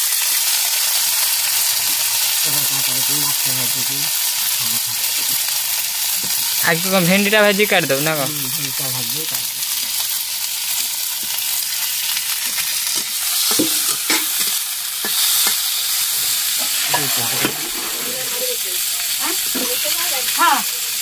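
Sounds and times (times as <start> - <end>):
okra sizzling in oil: 0.0 - 21.0.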